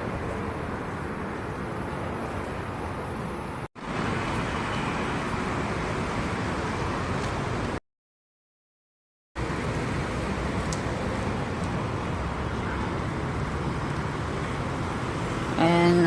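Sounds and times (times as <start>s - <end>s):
road traffic: 0.0s - 7.8s, 9.4s - 16.0s.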